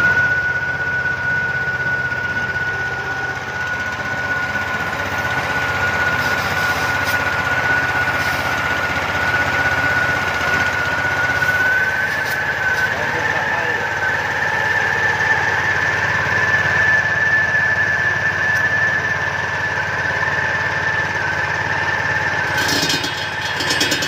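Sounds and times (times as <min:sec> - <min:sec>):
high whine of cutter: 0:00.0 - 0:24.0
petrol engine running: 0:00.0 - 0:24.0.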